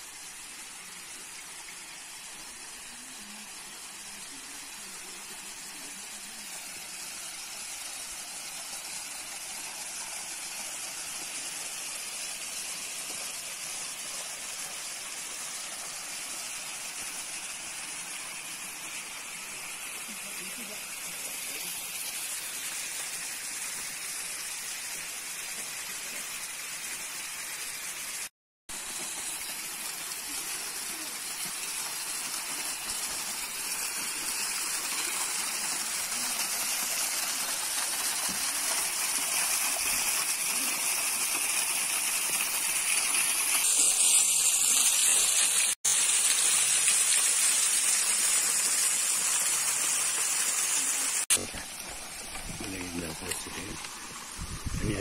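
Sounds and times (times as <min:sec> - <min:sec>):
water gushing: 0:00.0 - 0:55.0.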